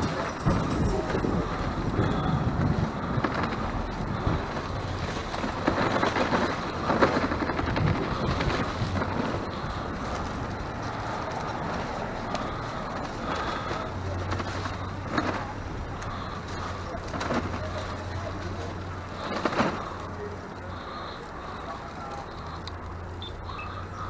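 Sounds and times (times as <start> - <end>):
bicycle road noise: 0.0 - 24.0
bike rattling and knocking: 0.0 - 24.0.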